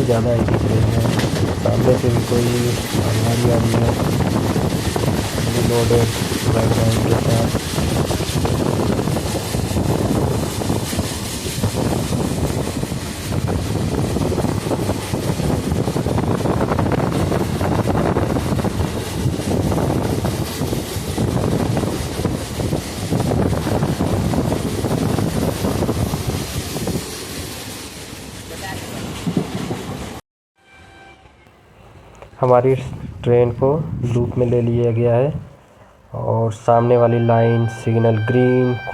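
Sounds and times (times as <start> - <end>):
wind buffeting microphone: 0.0 - 28.0, 32.4 - 38.9
moving train rumble: 0.0 - 38.9.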